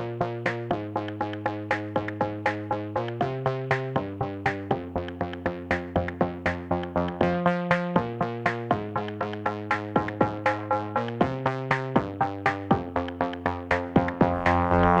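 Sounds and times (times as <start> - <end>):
drum machine beat: 0.0 - 15.0
synthesizer chords: 0.0 - 15.0.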